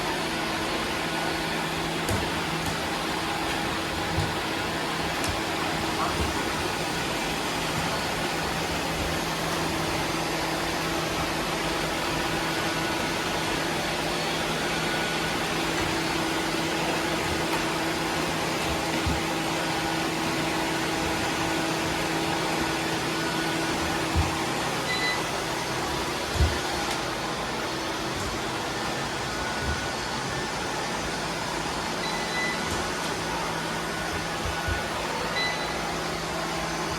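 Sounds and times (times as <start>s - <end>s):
robot vacuums whirring: 0.0s - 36.9s
steady hums: 0.0s - 36.9s.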